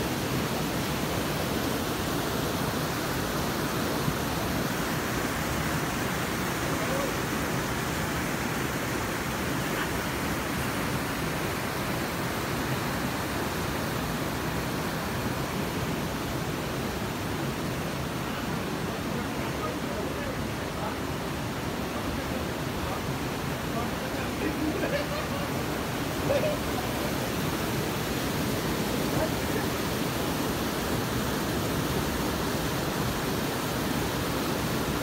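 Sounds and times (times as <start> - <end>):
stream rushing over rocks: 0.0 - 35.0.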